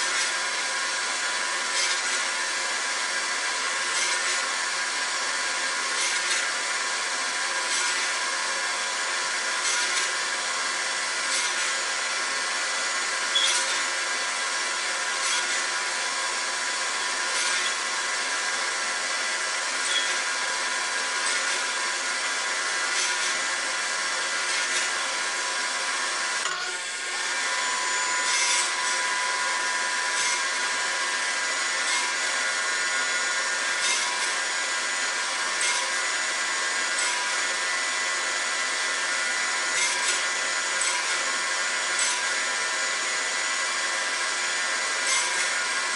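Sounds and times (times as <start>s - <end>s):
saw blade cutting wood: 0.0s - 45.9s
table saw motor whine: 0.0s - 45.9s.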